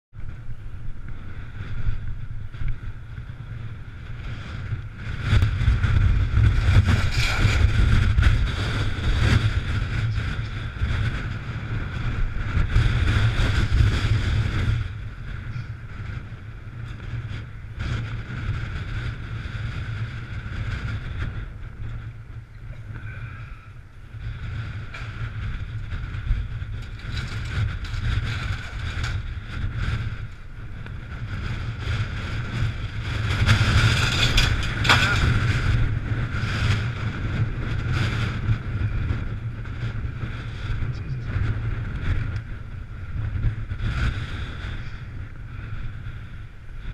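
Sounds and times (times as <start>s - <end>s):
gusty wind buffeting microphone: 0.1s - 46.9s.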